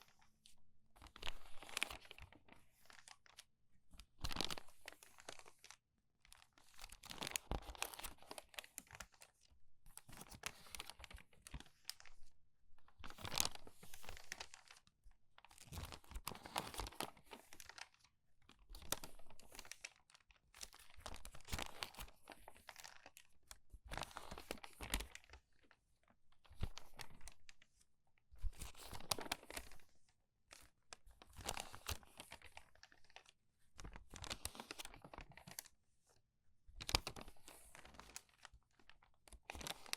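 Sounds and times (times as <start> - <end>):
crumpled paper pages turning: 0.1 - 12.3, 13.0 - 27.8, 28.4 - 36.2, 36.8 - 39.9.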